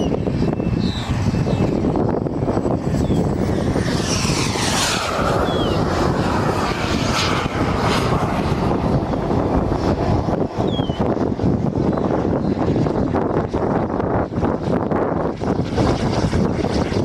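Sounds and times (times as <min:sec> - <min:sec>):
jet plane whine passing: 0:00.0 - 0:17.0
wind noise on microphone: 0:00.0 - 0:17.0.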